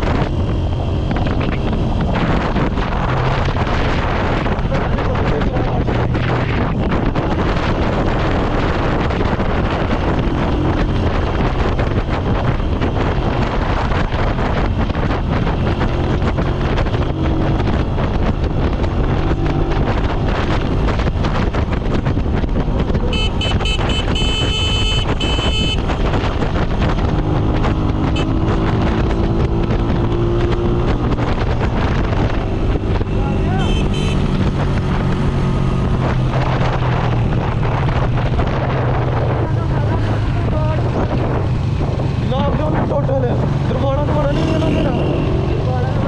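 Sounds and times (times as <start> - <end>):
motorcycle engine cruising: 0.0 - 46.0
wind buffeting microphone: 0.0 - 46.0.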